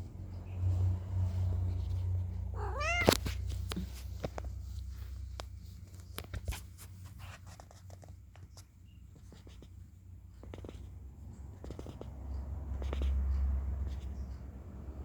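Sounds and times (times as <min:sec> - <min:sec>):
light scratching and tapping clicks: 0:00.0 - 0:15.0.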